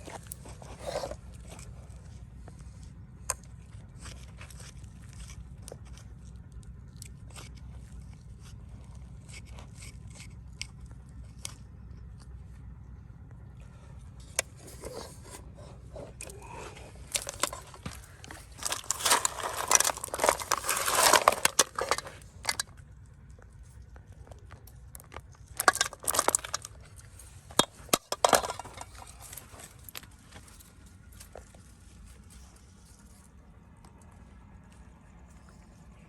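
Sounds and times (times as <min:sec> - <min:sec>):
scraping and crunching: 0:00.0 - 0:12.4, 0:13.6 - 0:35.7.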